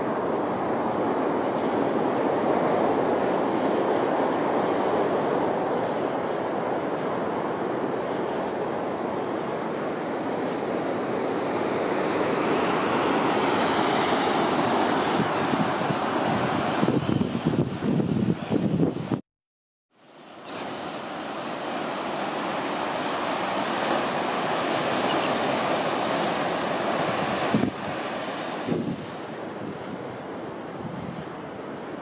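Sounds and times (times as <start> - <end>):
ocean surf breaking on rocks: 0.0 - 17.0, 20.1 - 32.0.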